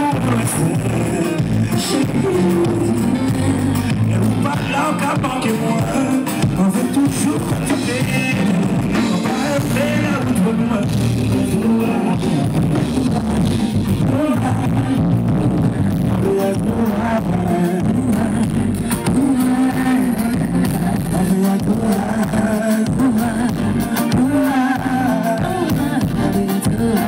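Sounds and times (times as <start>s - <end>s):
bass-heavy live music: 0.0s - 27.0s
person singing: 0.0s - 27.0s.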